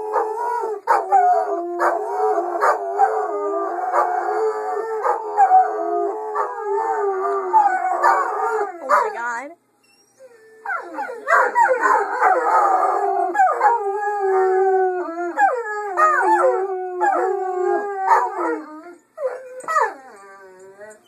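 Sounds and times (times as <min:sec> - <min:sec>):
dogs howling: 0:00.0 - 0:09.1, 0:10.2 - 0:21.0.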